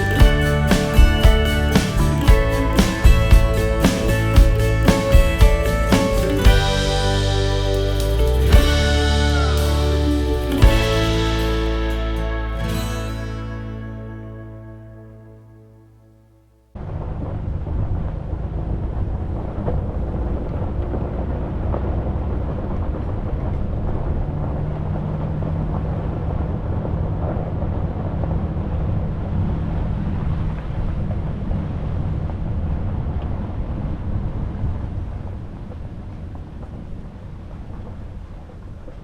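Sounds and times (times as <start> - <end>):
vehicle engine and road rumble: 0.0 - 15.0, 16.8 - 39.0.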